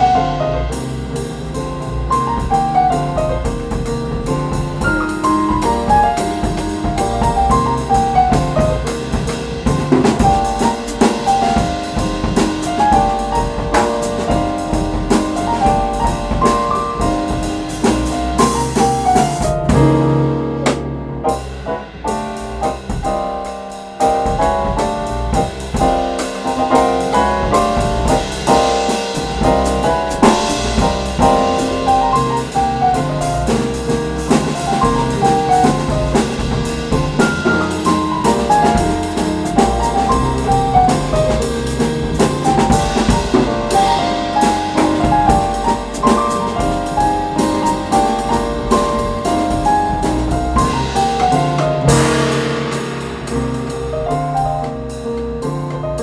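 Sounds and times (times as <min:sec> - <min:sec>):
acoustic piano: 0:00.0 - 0:56.0
double bass: 0:00.0 - 0:56.0
drum kit: 0:00.0 - 0:56.0.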